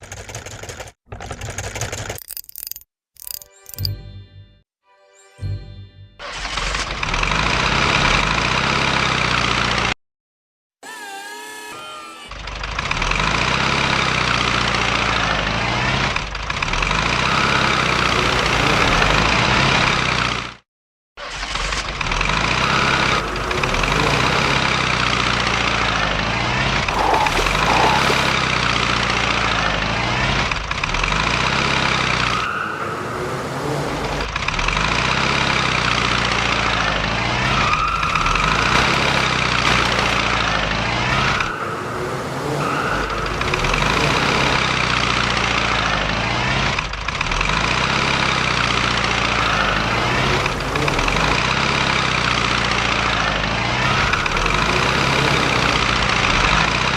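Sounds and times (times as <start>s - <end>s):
heavy truck engine running: 6.1s - 10.0s, 12.3s - 20.6s, 21.8s - 56.9s.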